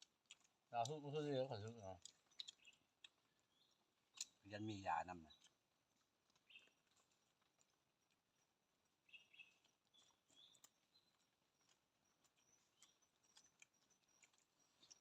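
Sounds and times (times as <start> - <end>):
faint bird chirps: 0.8 - 5.6, 6.4 - 15.0.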